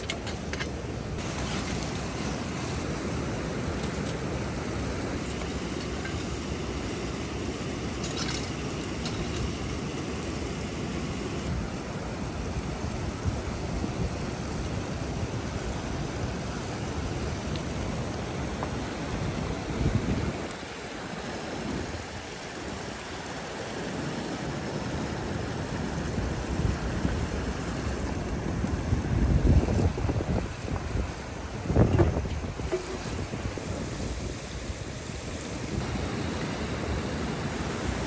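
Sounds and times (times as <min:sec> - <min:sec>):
river water pouring over a weir: 0:00.0 - 0:38.0.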